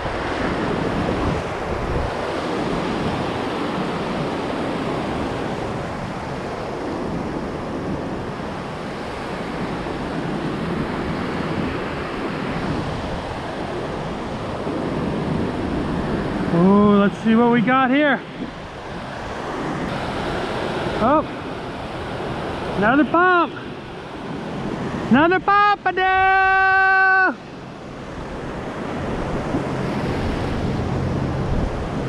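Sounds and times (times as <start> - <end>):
wind rumbling on microphone: 0.0 - 25.3, 27.3 - 32.0
ocean surf breaking on beach: 0.0 - 32.0.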